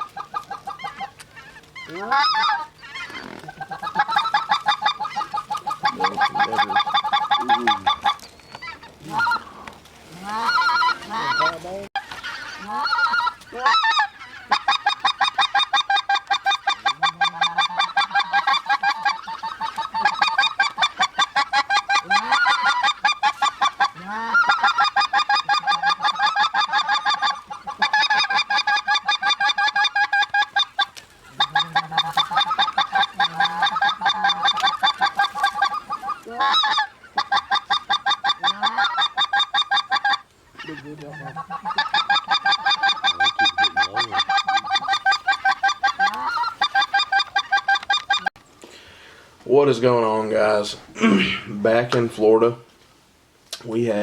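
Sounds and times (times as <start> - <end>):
geese honking: 0.0 - 48.4.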